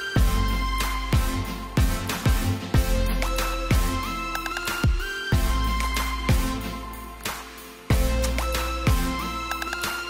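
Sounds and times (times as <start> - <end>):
background music with held tones: 0.0 - 10.0.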